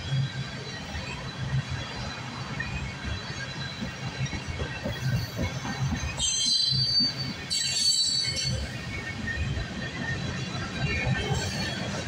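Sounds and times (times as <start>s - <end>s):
freight train rolling past: 0.0s - 12.0s
steel wheels rumbling on rail: 0.0s - 12.0s.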